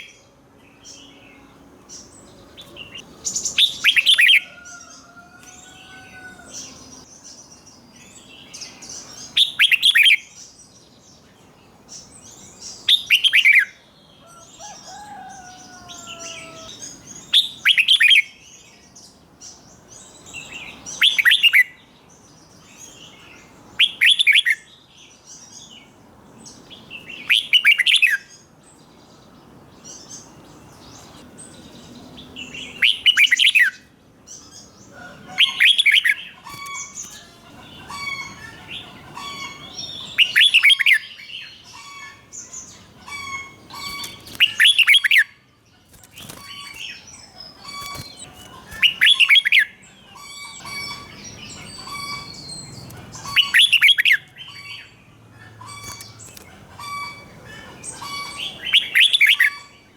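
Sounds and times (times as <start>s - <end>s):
bird singing: 0.0s - 59.9s
soft bird chirps: 0.8s - 59.9s.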